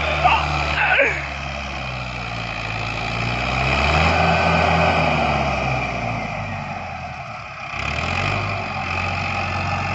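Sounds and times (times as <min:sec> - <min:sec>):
tractor diesel engine running hard: 0:00.0 - 0:09.9.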